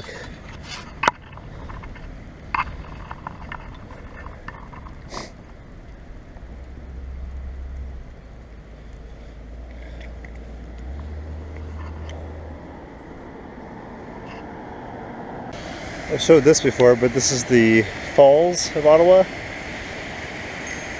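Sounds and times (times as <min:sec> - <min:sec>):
bicycle road and wind noise: 0:00.0 - 0:20.9.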